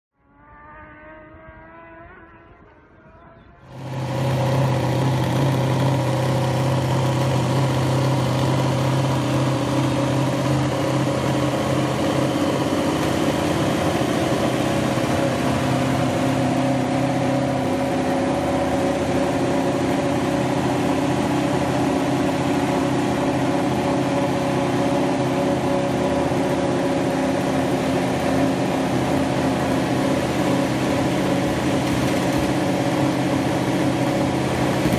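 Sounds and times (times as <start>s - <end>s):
motorcycle engine idling: 3.0s - 34.9s.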